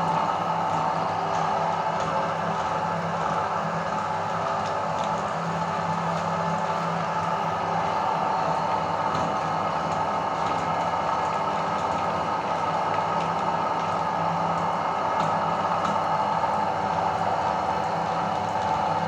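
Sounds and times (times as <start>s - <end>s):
meat grinder humming: 0.0s - 19.0s.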